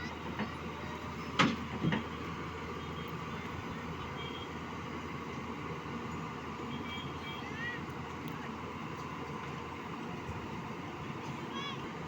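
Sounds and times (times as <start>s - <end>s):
heavy diesel machinery running: 0.0s - 12.0s.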